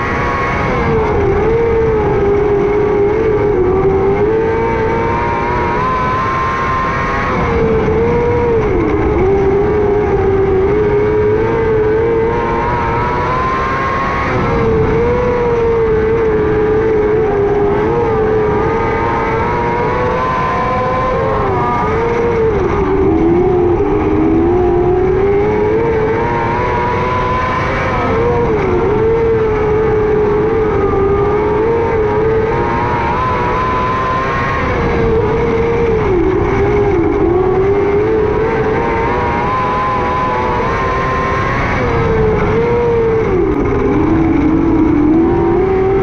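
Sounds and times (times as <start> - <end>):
race car engine at high revs: 0.0 - 46.0.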